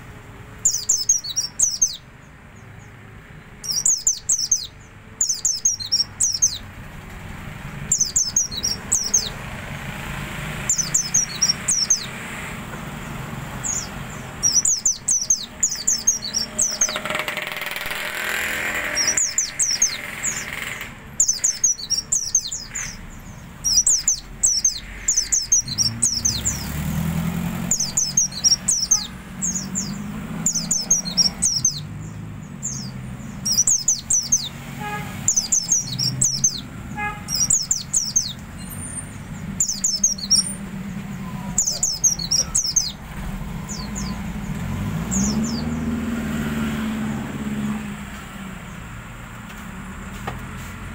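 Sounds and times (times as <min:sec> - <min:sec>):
motorbike traffic hum: 0:00.0 - 0:50.9
songbird twittering: 0:00.6 - 0:06.7, 0:07.6 - 0:46.0.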